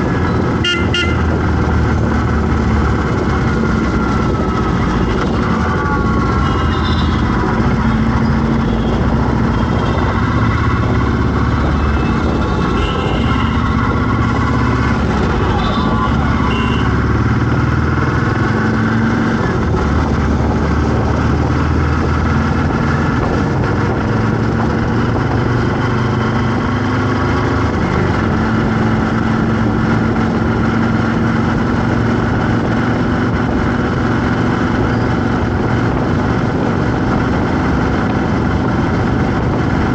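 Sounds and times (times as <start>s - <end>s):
vehicle engines humming: 0.0s - 39.9s.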